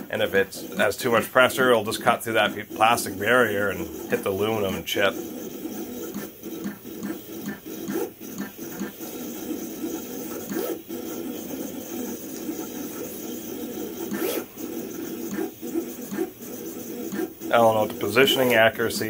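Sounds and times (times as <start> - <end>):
vinyl cutter motors whirring: 0.0 - 19.0.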